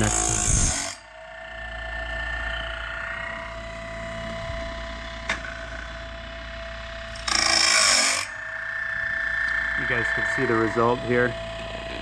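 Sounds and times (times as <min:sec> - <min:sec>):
grinder motor whine: 0:00.0 - 0:12.0.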